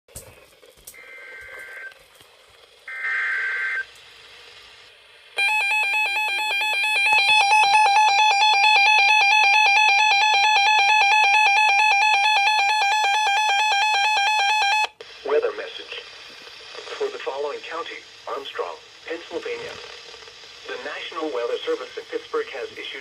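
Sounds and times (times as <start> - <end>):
harsh steady electronic tone: 1.0 - 2.1, 2.8 - 23.0
coded data header burst: 2.9 - 4.6, 5.3 - 23.0.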